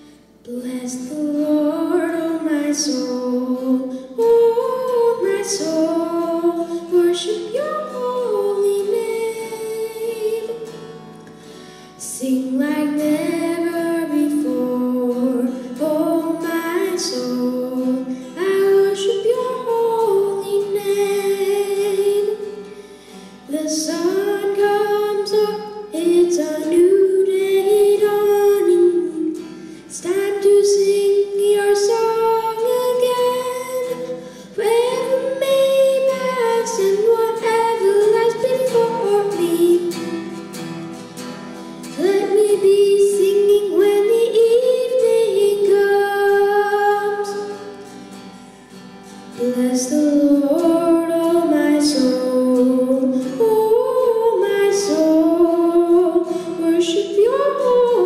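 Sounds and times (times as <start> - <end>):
strummed acoustic guitar: 0.0 - 58.0
boy singing: 0.4 - 10.9, 12.0 - 22.6, 23.4 - 40.2, 41.9 - 47.6, 49.3 - 58.0.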